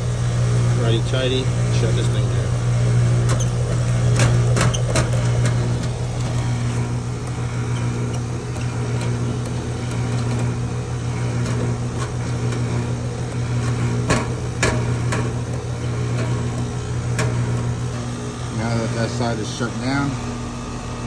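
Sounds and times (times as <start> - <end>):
compressor low hum: 0.0 - 21.0
fan rushing: 0.0 - 21.0.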